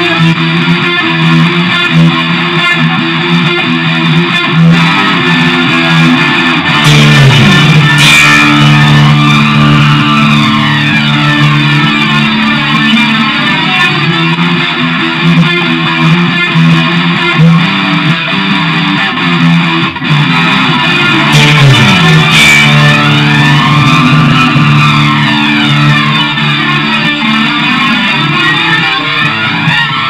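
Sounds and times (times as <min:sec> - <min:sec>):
sustained electric guitar chords: 0:00.0 - 0:30.0.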